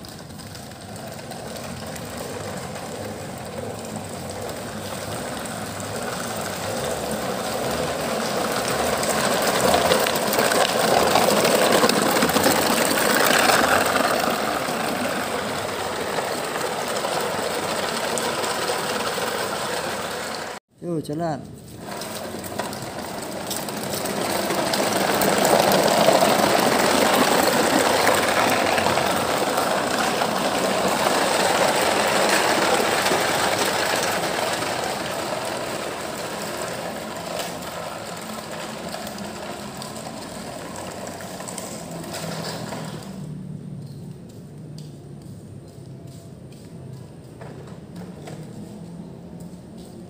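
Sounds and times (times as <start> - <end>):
toy trucks whirring and rolling: 0.0 - 20.6, 21.7 - 50.0.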